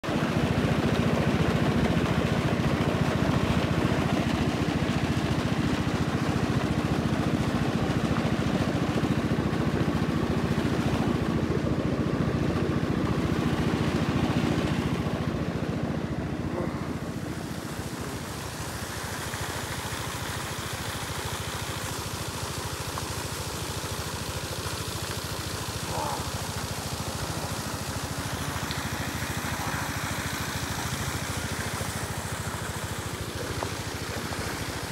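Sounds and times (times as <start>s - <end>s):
churning water: 0.0s - 34.9s
engine drone: 0.0s - 34.9s.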